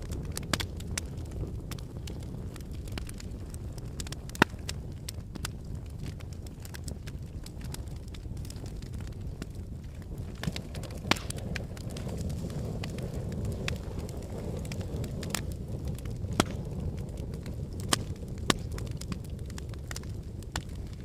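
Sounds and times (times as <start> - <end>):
fire flames rumbling: 0.0 - 21.0
logs crackling and popping: 0.0 - 21.0.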